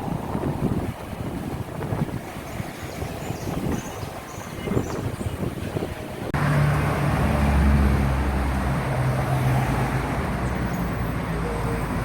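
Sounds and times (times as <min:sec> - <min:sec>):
gusty wind: 0:00.0 - 0:11.2
street traffic: 0:00.0 - 0:12.0.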